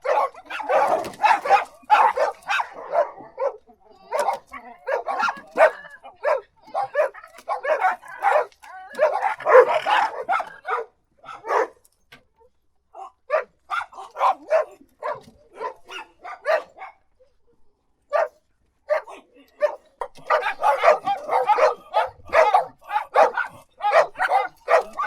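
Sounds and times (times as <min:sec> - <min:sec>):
dog barking: 0:00.0 - 0:11.8, 0:13.0 - 0:17.0, 0:18.1 - 0:25.0.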